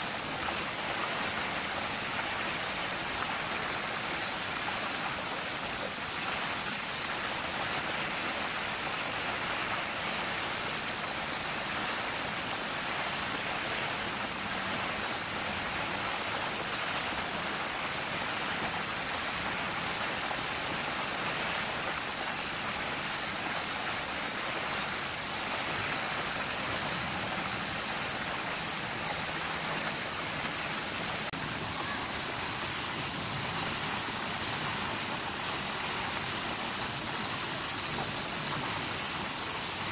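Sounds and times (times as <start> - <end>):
cicada chorus drone: 0.0 - 39.9.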